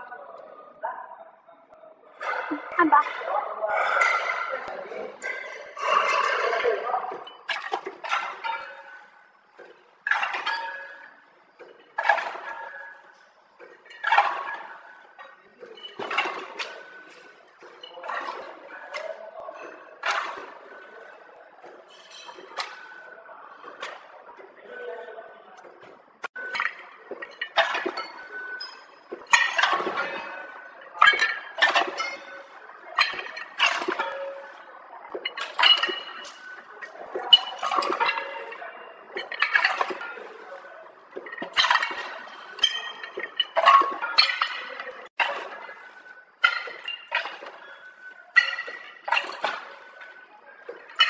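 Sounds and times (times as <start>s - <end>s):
lollipops clinking on metal buckets: 5.2s - 24.1s, 25.6s - 51.0s.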